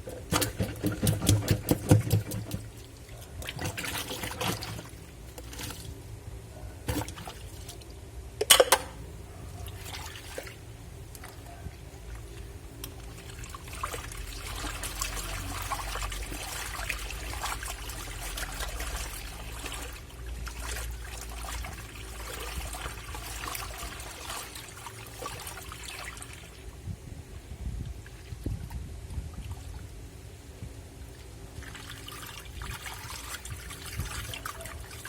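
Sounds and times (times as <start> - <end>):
water splashing into washing machine: 0.0 - 6.0, 6.8 - 7.9, 9.6 - 26.8, 31.0 - 35.0.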